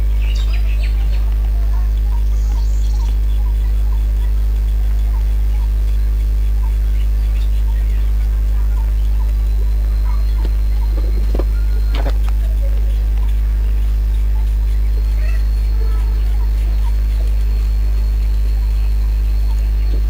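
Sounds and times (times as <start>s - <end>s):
low electrical mains hum: 0.0s - 20.0s
thin high whine: 0.0s - 20.0s
faint chirps and scrapes: 0.5s - 20.0s.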